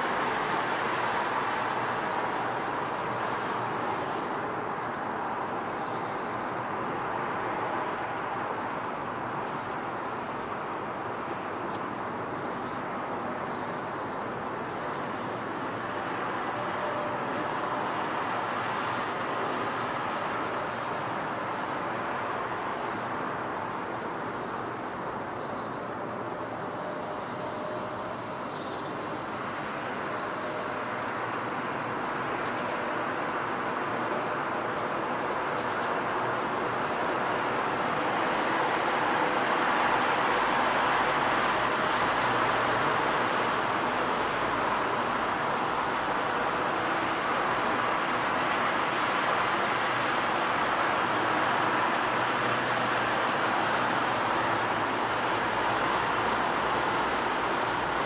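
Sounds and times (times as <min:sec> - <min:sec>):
distant vehicle noise: 0:00.0 - 0:58.0.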